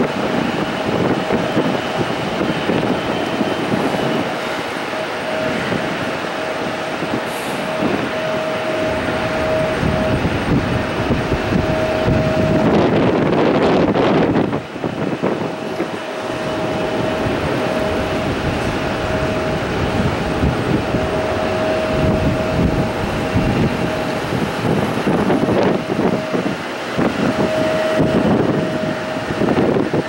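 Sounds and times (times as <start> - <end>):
jet engine rumble and whine: 0.0 - 30.0.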